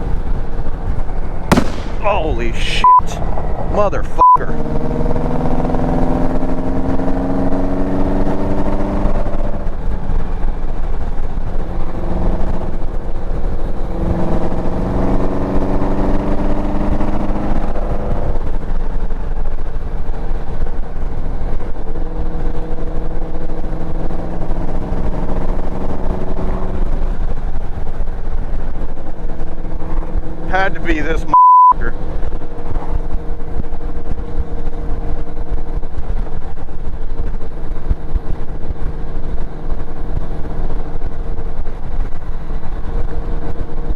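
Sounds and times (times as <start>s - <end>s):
road and wind rush: 0.0s - 43.9s.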